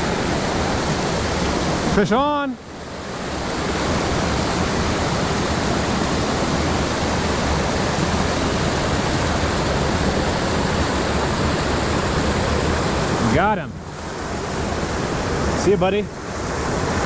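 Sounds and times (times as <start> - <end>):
fast-flowing stream rushing: 0.0 - 17.0.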